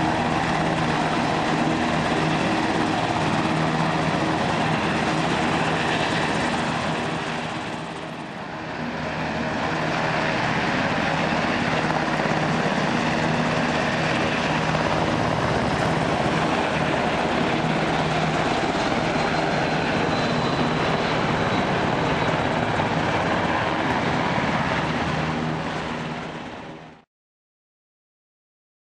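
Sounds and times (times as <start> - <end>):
helicopter flying past: 0.0 - 27.0
jet engine noise: 0.0 - 27.0.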